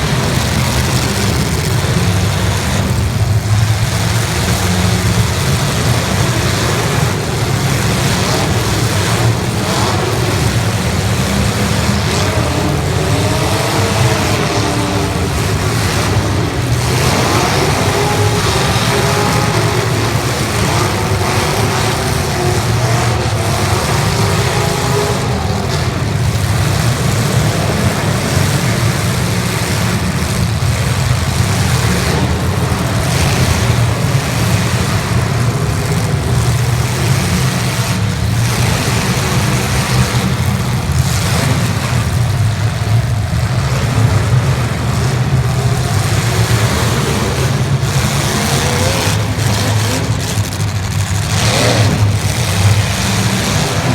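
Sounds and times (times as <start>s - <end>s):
car engines revving: 0.0s - 53.9s
low drone: 0.0s - 53.9s.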